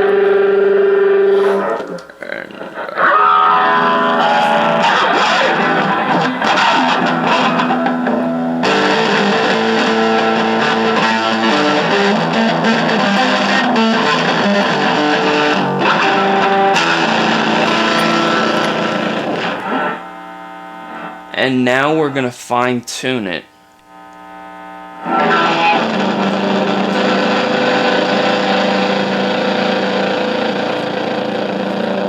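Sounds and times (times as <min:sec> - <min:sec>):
distorted electric guitar: 0:00.0 - 0:21.6, 0:23.7 - 0:32.0.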